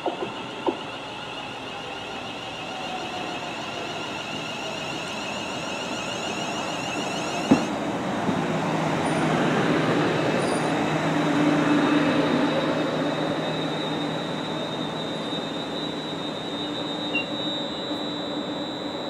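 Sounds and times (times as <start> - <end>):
electric train pulling in: 0.0 - 19.0.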